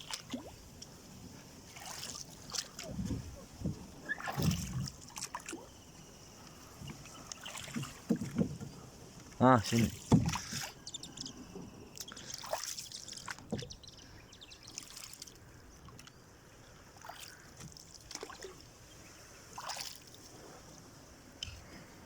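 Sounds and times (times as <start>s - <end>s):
water trickles and splashes: 0.0s - 22.0s.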